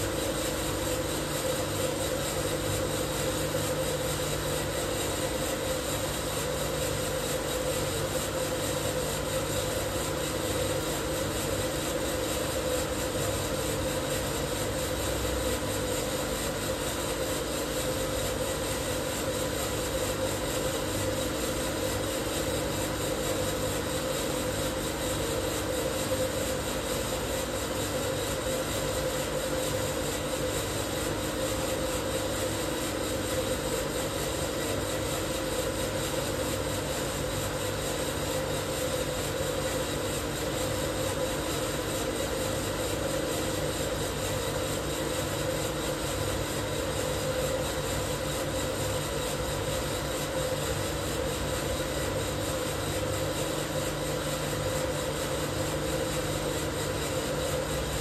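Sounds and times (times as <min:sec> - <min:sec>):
coffee roaster machine hum: 0:00.0 - 0:58.0.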